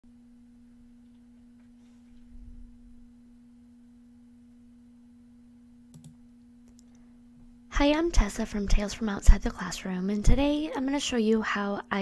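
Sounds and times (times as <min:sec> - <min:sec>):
faint low hum: 0:00.1 - 0:12.0.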